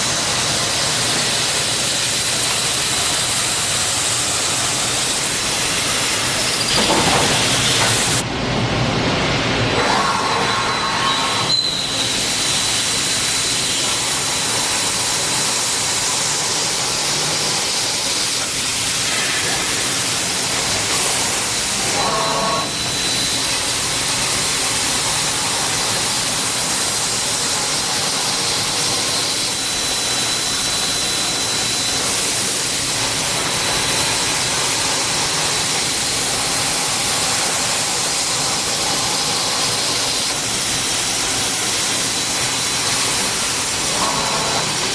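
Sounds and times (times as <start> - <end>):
drilling machine hissing: 0.0 - 8.2, 9.8 - 44.9.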